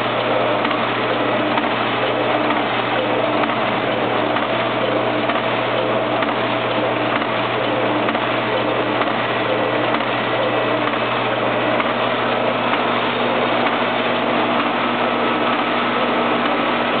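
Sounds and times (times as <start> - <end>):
low motor hum: 0.0 - 17.0
mechanical clatter of machine: 0.0 - 17.0.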